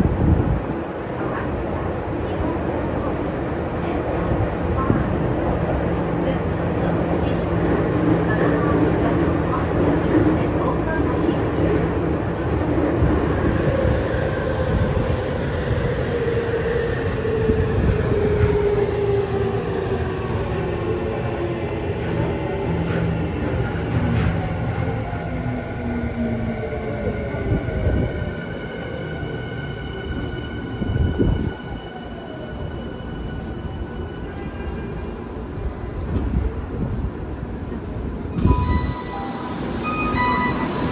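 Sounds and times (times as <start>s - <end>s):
train wheels rumbling on rail: 3.8s - 40.9s.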